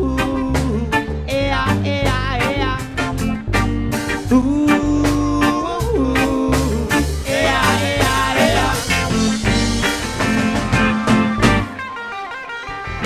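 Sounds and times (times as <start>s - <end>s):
reggae band playing: 0.0s - 13.0s.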